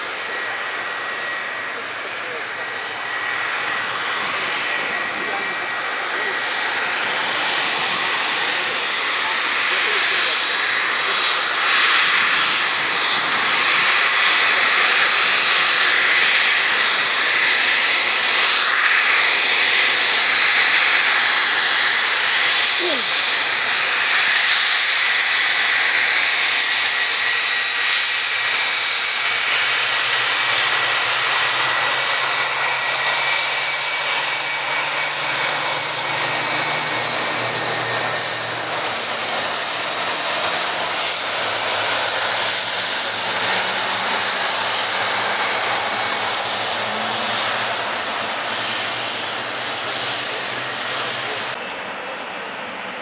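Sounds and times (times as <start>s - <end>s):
jet engines rushing and whining: 0.0s - 53.0s.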